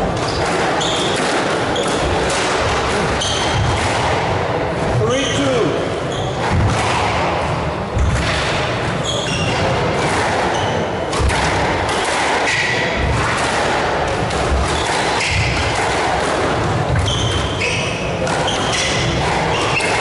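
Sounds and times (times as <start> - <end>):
murmur of spectators: 0.0 - 20.0
squash ball thudding: 0.0 - 20.0.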